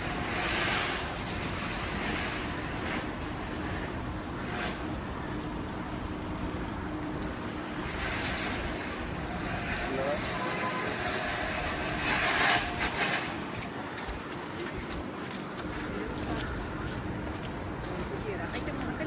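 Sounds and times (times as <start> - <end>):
low rumble of engines: 0.0 - 19.0
vehicles swishing by: 0.0 - 19.0.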